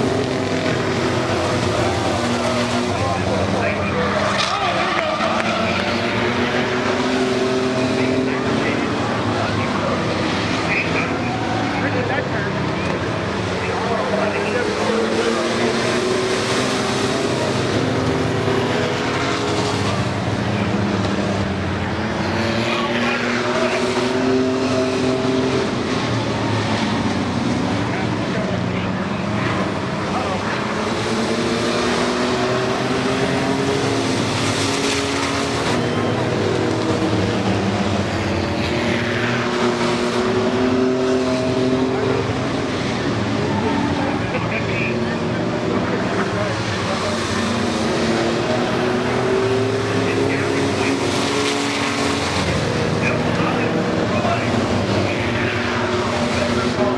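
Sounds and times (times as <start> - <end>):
race truck engines: 0.0 - 56.9.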